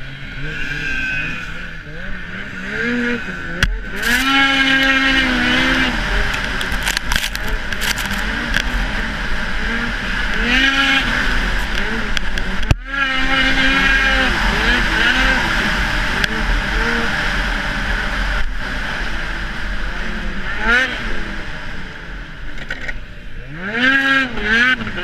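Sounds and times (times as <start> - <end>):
snowmobile engine revving: 0.0 - 21.8, 23.4 - 25.0.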